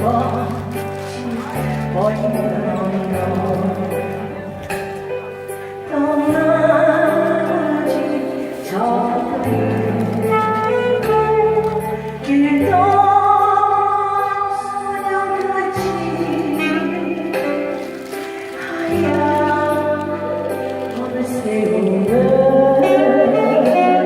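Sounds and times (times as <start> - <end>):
instrumental accompaniment: 0.0 - 24.0
woman singing a ballad: 0.0 - 24.0.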